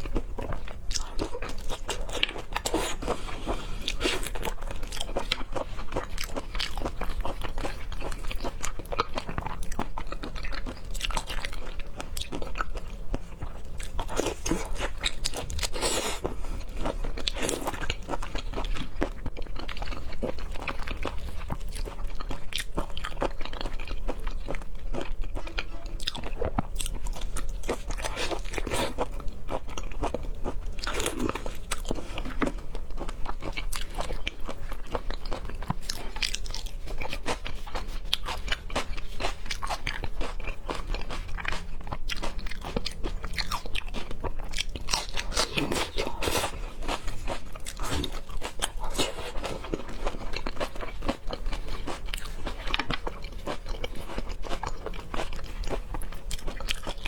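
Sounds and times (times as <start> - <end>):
person chewing crunchy seafood: 0.0 - 57.0.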